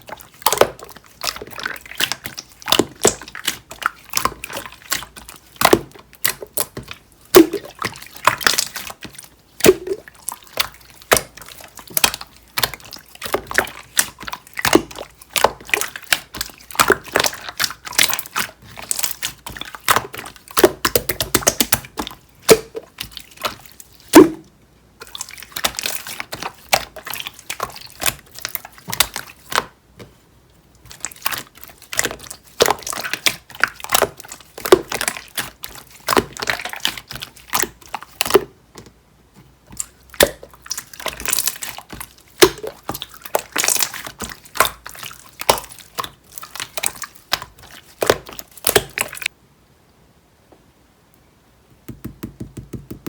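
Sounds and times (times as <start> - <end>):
slime squished by hand: 0.0 - 29.8, 30.8 - 38.6, 39.7 - 49.3.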